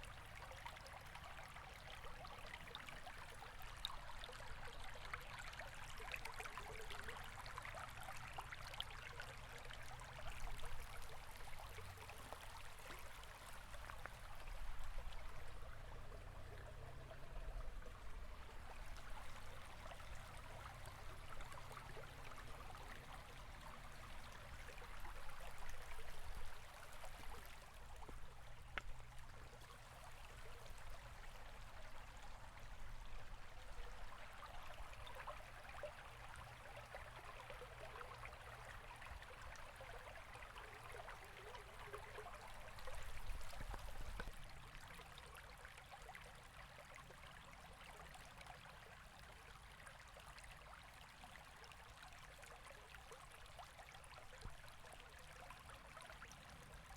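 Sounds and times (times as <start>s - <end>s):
river water burbling: 0.0s - 56.9s.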